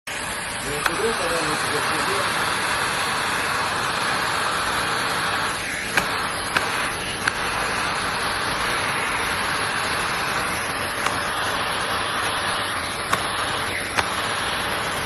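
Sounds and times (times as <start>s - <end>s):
pool vacuum motor running: 0.1s - 15.0s.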